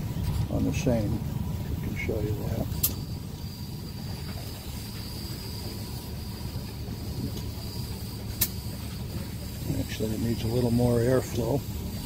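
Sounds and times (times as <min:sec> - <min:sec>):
faint high whine: 0:00.0 - 0:12.0
low steady rumble: 0:00.0 - 0:12.0
air pump hiss: 0:00.6 - 0:12.0.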